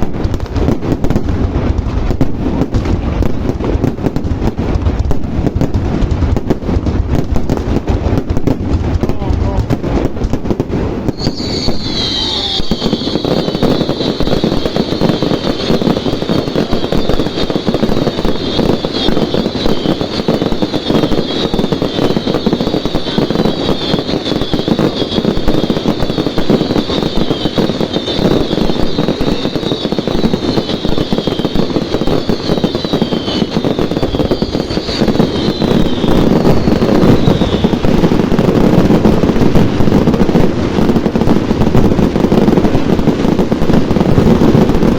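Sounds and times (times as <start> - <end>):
fireworks crackling and popping: 0.0 - 44.9
whistling fireworks: 0.0 - 44.9.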